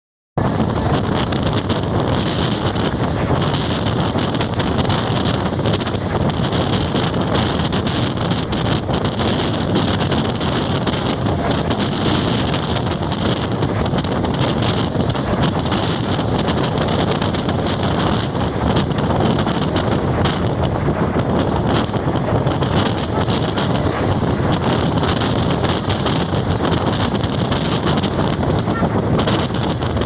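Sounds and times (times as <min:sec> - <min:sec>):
moving train running noise: 0:00.4 - 0:30.0
wind buffeting microphone: 0:00.4 - 0:30.0.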